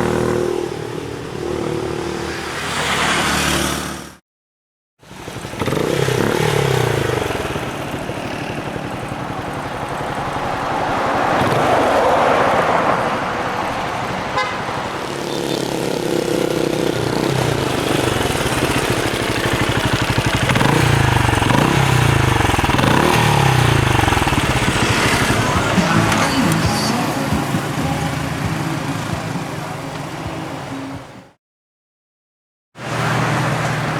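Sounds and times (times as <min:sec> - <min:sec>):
motorcycle engine revving: 0:00.0 - 0:04.2, 0:05.0 - 0:31.0.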